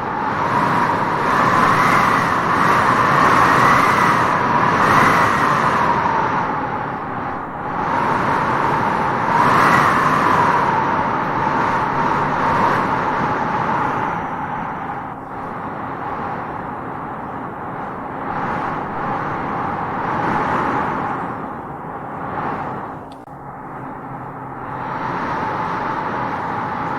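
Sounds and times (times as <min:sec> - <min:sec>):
wind gusting through grass: 0:00.0 - 0:26.9
wind whistling: 0:00.0 - 0:26.9.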